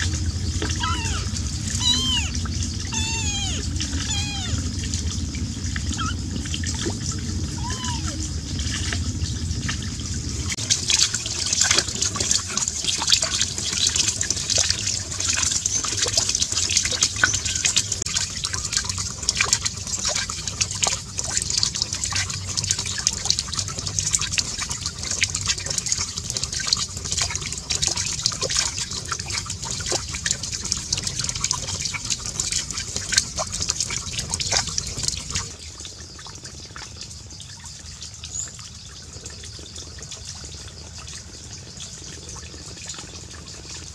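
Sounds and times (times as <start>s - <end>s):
water splashing and trickling: 0.0s - 43.9s.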